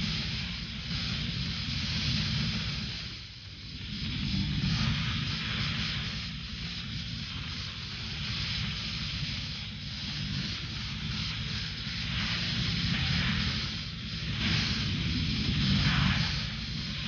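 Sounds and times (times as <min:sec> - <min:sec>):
distorted guitar noise: 0:00.0 - 0:17.0
fast low drums: 0:00.0 - 0:17.0.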